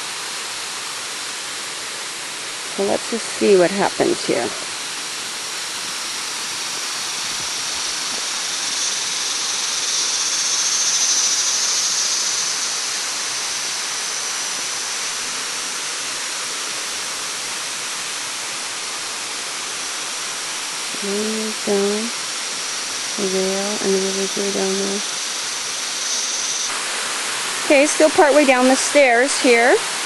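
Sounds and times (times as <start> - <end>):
waterfall and river rushing: 0.0 - 21.0, 23.8 - 30.0.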